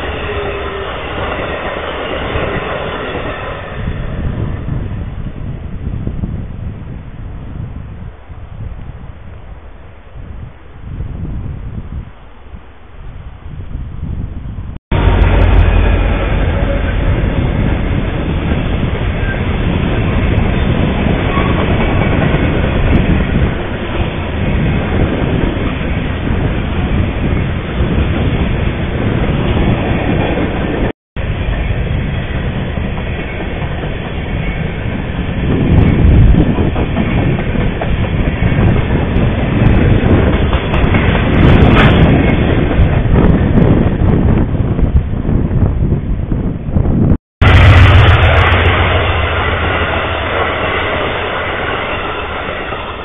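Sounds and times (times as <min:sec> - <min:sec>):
train wheels rolling on rails: 0:00.0 - 0:06.7, 0:14.9 - 0:45.7, 0:47.4 - 0:53.0.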